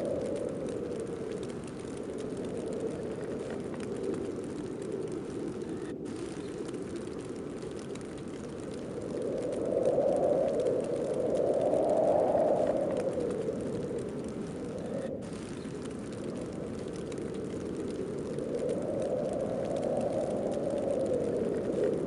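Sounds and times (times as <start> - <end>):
snowstorm wind rushing: 0.0 - 22.0.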